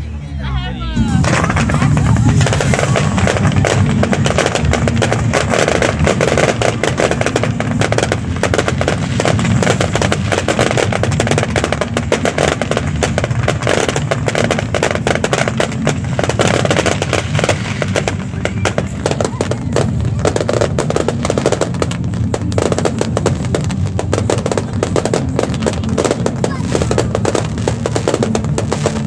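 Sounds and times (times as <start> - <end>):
fireworks bangs and crackles: 0.9 - 29.0.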